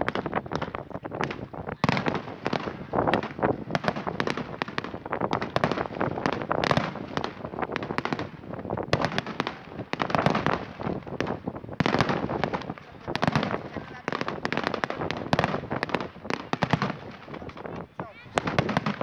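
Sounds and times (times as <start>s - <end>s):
firework shells bursting: 0.0s - 19.0s
fireworks crackling: 0.0s - 19.0s.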